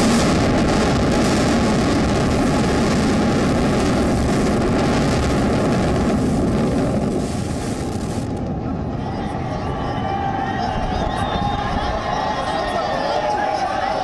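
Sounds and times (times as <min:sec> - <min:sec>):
building collapse rumble: 0:00.0 - 0:12.7.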